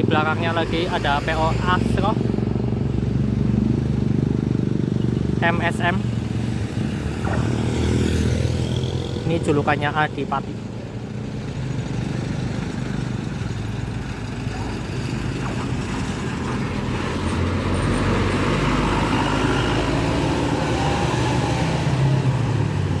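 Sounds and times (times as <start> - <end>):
heavy vehicle approaching: 0.0 - 23.0
traffic engine hum: 0.0 - 23.0.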